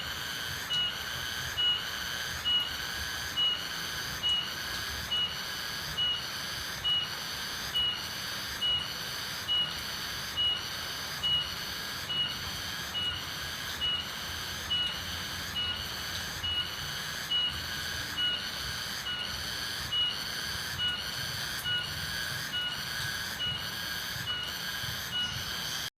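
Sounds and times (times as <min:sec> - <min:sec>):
high whistling call with buzz: 0:00.0 - 0:25.9.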